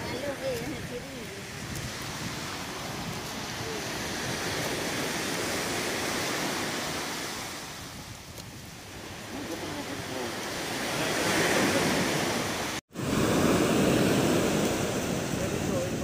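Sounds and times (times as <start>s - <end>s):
surf washing on shore: 0.0s - 16.0s.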